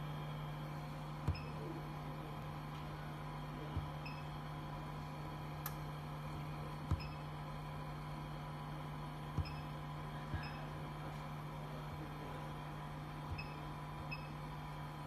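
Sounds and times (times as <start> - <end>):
printer humming: 0.0 - 15.0.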